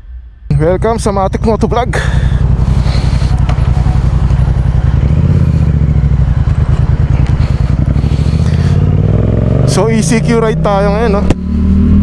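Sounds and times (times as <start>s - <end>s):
motorcycle engine running: 0.5s - 12.0s.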